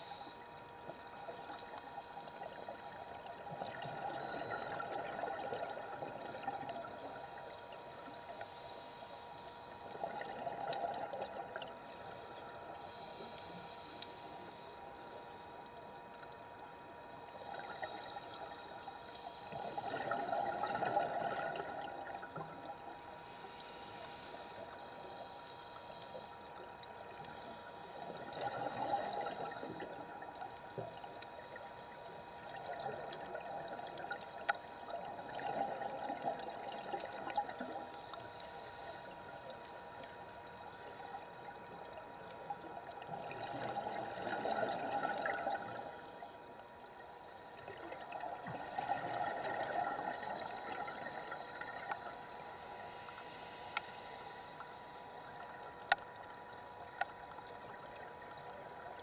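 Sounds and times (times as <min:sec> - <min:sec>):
underwater bubbles gurgling: 0:00.1 - 0:08.5, 0:09.7 - 0:13.5, 0:15.9 - 0:23.4, 0:24.0 - 0:52.2.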